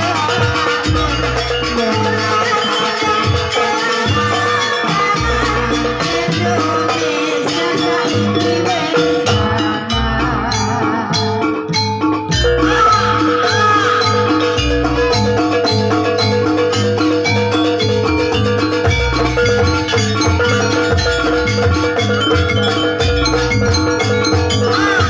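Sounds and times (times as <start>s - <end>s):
metal mallet-struck keys melody: 0.0s - 25.0s
repeating drum pattern: 0.0s - 25.0s
steady held tone: 0.0s - 25.0s.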